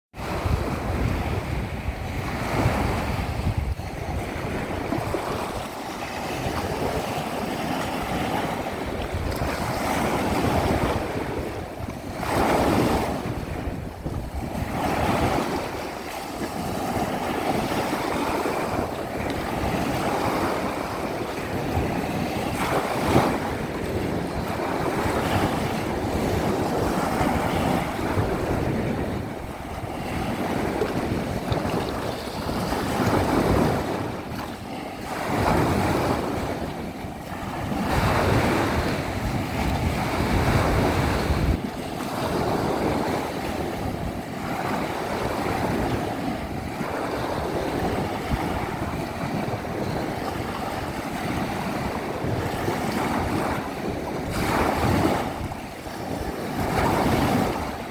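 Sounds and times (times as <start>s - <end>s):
wind buffeting microphone: 0.1s - 57.9s
sea surf washing: 0.2s - 57.9s.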